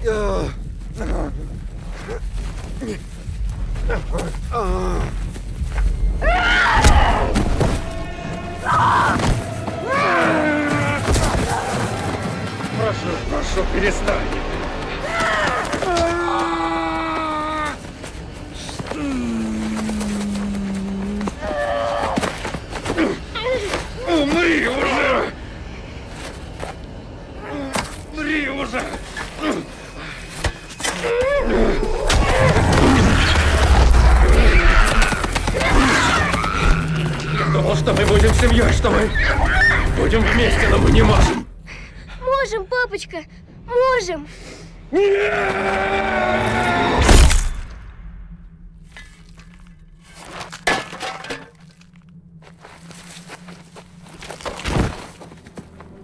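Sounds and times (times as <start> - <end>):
tense score with wailing tones: 0.0 - 56.0.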